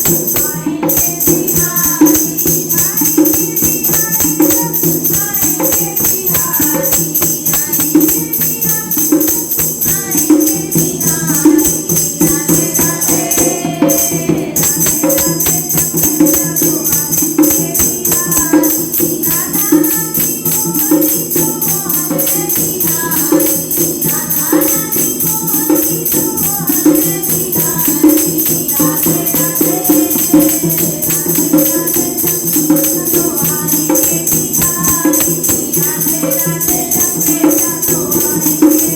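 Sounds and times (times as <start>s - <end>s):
percussion steady beat: 0.0s - 38.9s
women singing: 0.0s - 38.9s.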